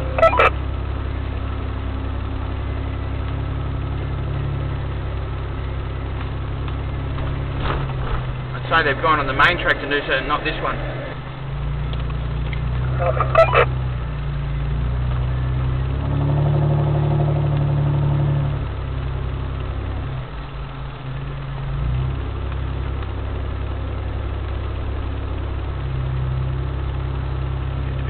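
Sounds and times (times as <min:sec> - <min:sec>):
engine running at low speed: 0:00.0 - 0:28.0.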